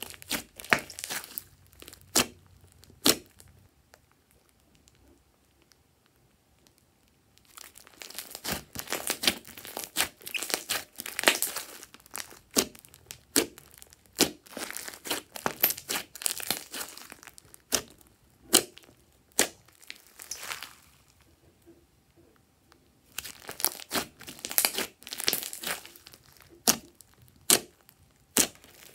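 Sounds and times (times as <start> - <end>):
slime popping and crackling: 0.0 - 5.8, 6.6 - 21.2, 23.0 - 28.9
slime squishing: 0.0 - 5.9, 6.6 - 21.7, 23.0 - 28.9.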